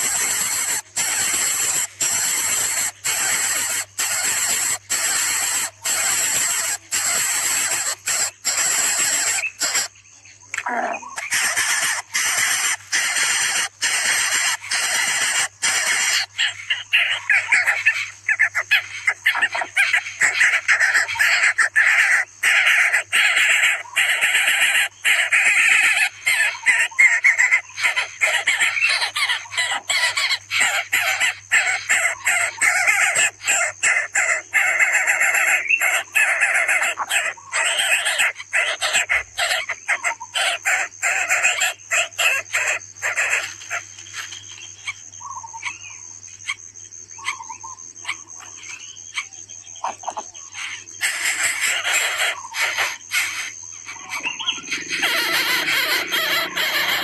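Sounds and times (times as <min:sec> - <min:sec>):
nestlings raspy begging calls: 0:00.0 - 0:57.0.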